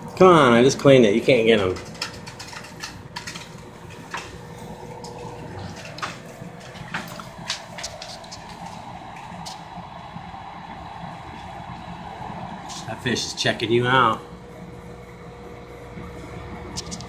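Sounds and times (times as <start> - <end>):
aquarium filter water trickling: 0.0 - 17.0.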